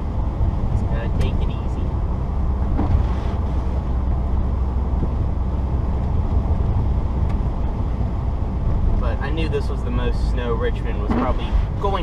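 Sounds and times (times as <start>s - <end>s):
car engine drone: 0.0s - 12.0s
road and tyre noise: 0.0s - 12.0s.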